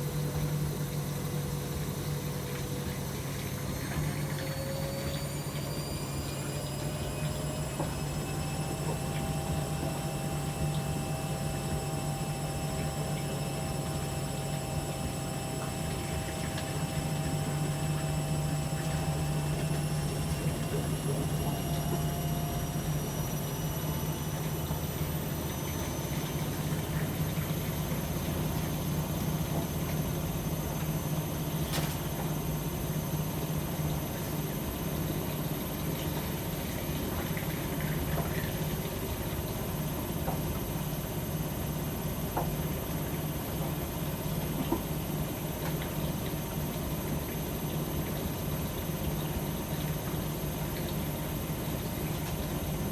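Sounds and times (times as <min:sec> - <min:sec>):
drum motor whine: 0:00.0 - 0:52.9
washing machine humming: 0:00.0 - 0:52.9.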